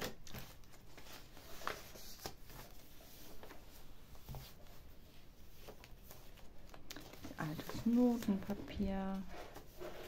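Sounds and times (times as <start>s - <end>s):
pages rustling: 0.0s - 4.9s, 5.5s - 10.0s.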